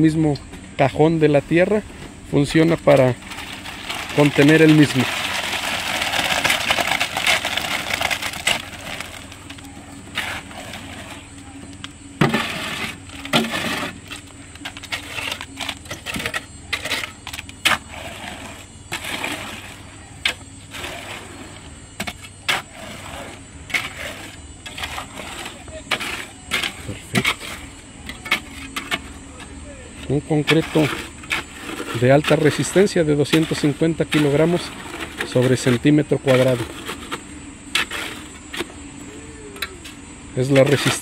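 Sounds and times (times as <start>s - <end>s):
shovel scraping and knocking: 1.5s - 38.8s, 40.5s - 41.0s
wet concrete sliding out: 1.6s - 39.8s.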